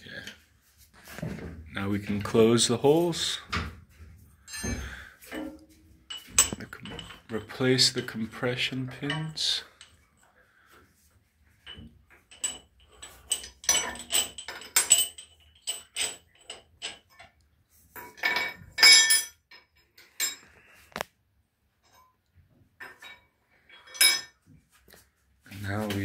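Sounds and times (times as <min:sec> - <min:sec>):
metal tools clinking and clanking: 0:01.0 - 0:10.8, 0:11.5 - 0:21.1, 0:21.8 - 0:22.2, 0:22.8 - 0:24.5.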